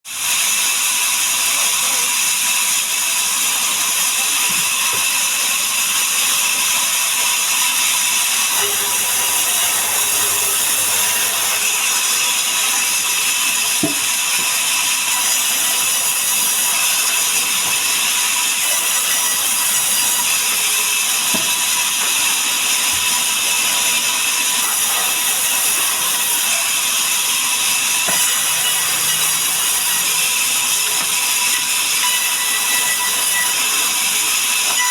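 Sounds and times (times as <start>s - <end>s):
saw cutting logs: 0.2s - 34.9s.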